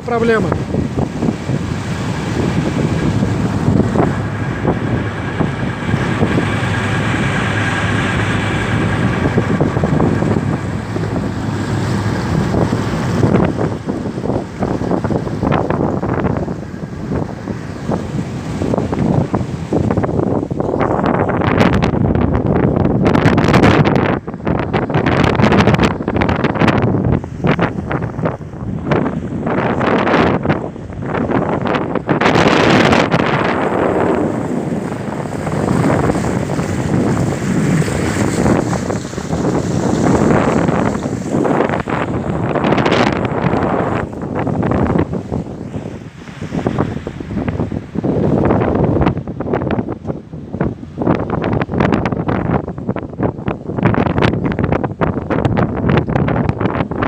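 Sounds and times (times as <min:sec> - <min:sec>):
water rushing and splashing: 0:00.0 - 0:57.0
wind buffeting microphone: 0:00.0 - 0:57.0.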